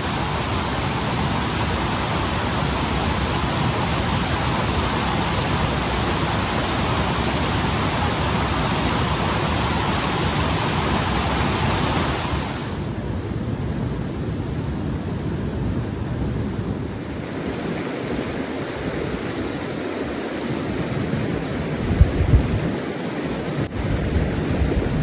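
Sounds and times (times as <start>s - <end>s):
stream rushing over rocks: 0.0s - 13.0s, 16.8s - 25.0s.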